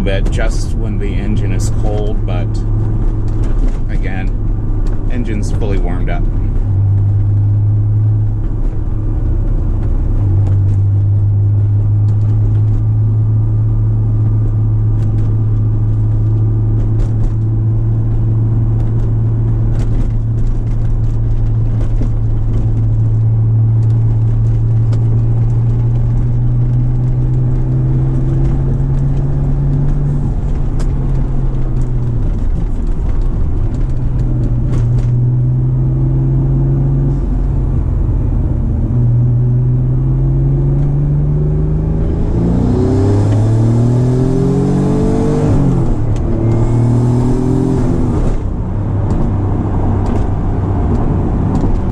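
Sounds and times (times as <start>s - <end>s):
car engine droning: 0.0s - 51.9s.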